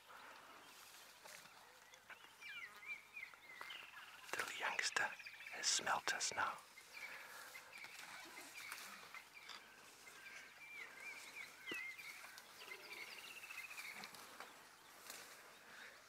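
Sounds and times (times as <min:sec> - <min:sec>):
birds calling with whistled notes: 0:00.0 - 0:16.0.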